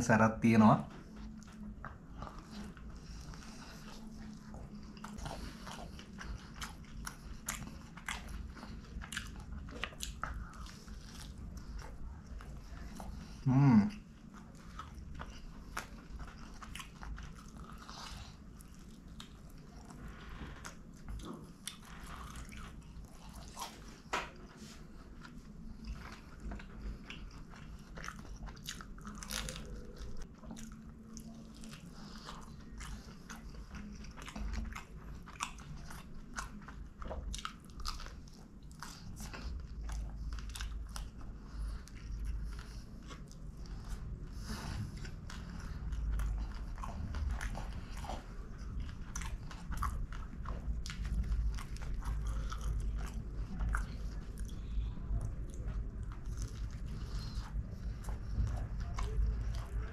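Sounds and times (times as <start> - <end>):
biting and chewing crispy pizza: 0.1 - 59.9.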